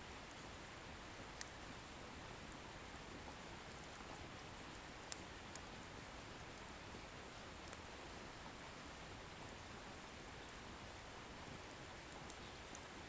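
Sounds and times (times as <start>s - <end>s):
soft hiss of bonfire: 0.0s - 13.0s.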